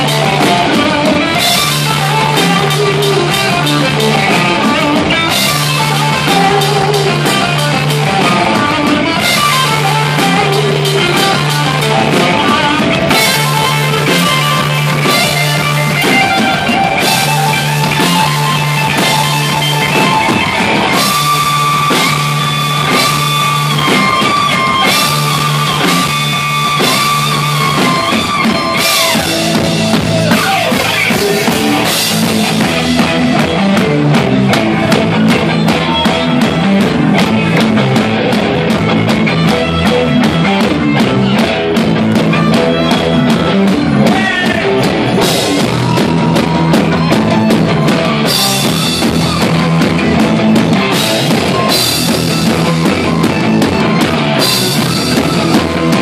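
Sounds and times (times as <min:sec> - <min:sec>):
rock band playing live: 0:00.0 - 0:56.0
violin: 0:00.0 - 0:56.0.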